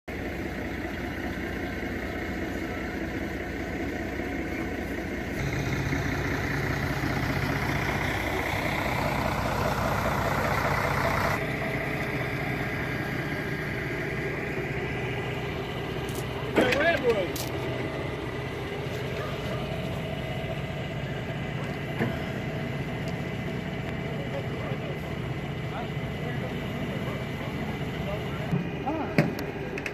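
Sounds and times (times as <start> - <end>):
large vehicle engine running: 0.1 - 29.9.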